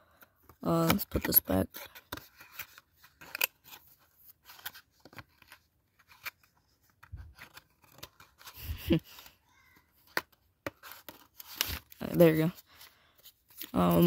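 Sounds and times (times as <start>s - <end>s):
cards rustling and scraping: 0.1s - 14.0s.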